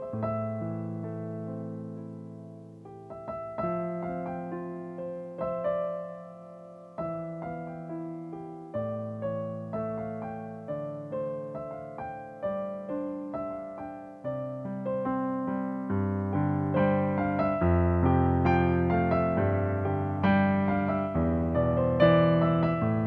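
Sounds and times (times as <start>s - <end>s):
gentle digital piano chords: 0.0s - 23.0s.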